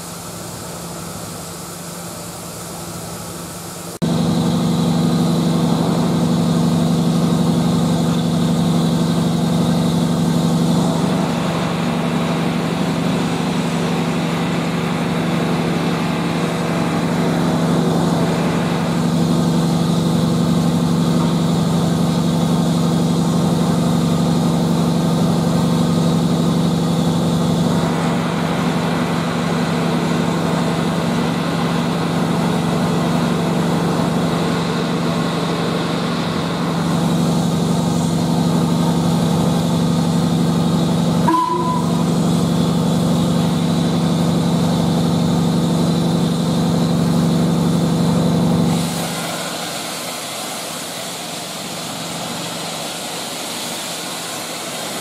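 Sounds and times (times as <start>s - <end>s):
low engine-like drone: 0.0s - 55.0s
steam hissing from locomotive: 0.0s - 55.0s.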